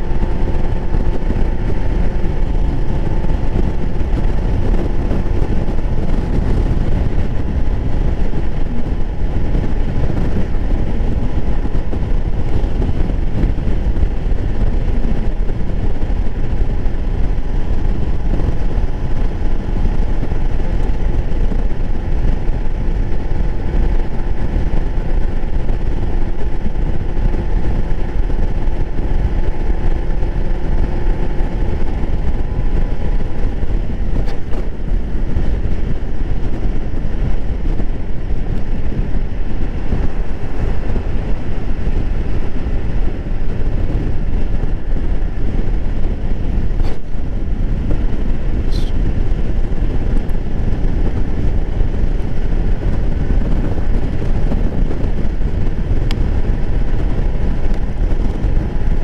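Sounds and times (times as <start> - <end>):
small engine droning: 0.0 - 59.0
wind buffeting microphone: 0.0 - 59.0.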